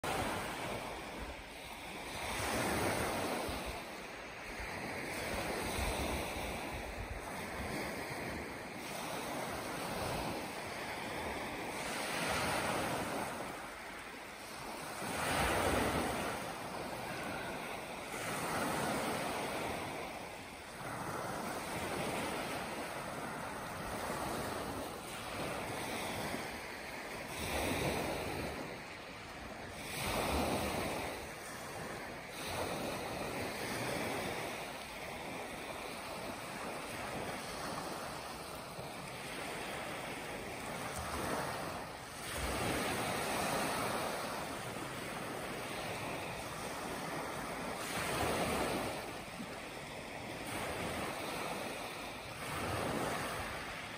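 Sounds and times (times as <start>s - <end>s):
waves washing up gravel beach: 0.0s - 53.9s.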